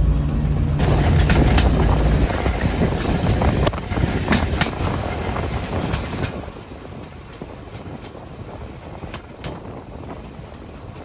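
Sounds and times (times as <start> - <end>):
train running gear rumble: 0.0 - 11.0
wheels clicking over rail joints: 0.2 - 11.0.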